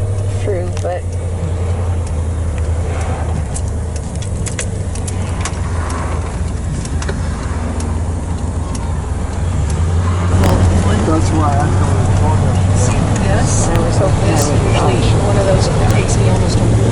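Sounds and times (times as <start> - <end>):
sharp clicks and rattles: 0.0 - 16.9
truck engine and road drone: 0.0 - 16.9.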